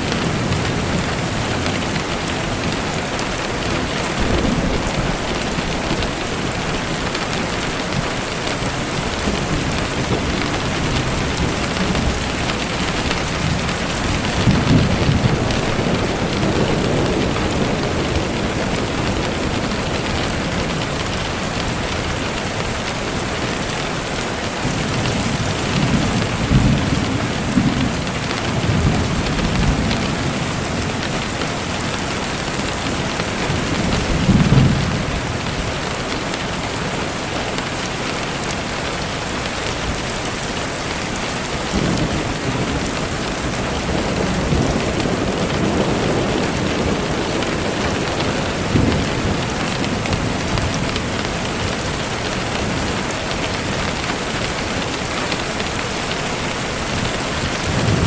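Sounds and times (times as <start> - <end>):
distant thunder rumbling: 0.0 - 35.8, 41.5 - 55.1, 56.0 - 58.0
rain falling: 0.0 - 58.0.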